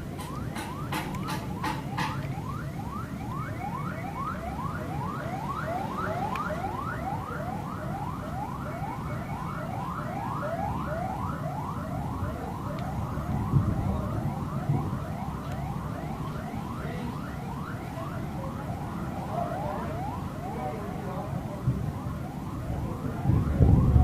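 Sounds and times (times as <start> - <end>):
electronic siren whooping: 0.2 - 24.0.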